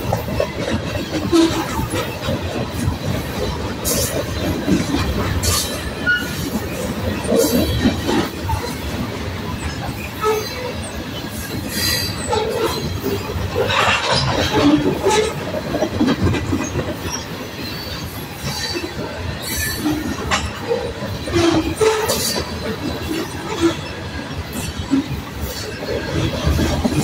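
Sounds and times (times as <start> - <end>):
steel wheels rumbling on rail: 0.0 - 27.0.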